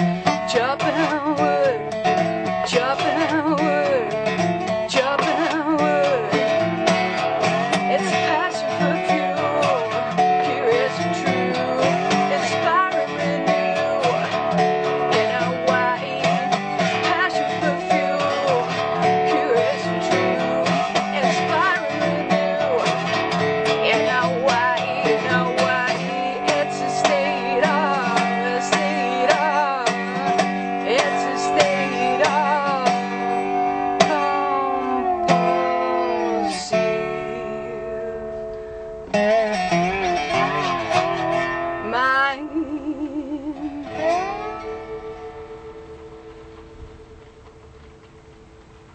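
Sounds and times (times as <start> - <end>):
woman singing: 0.0 - 38.7, 40.2 - 45.1
resonator guitar strummed and picked: 0.0 - 48.9.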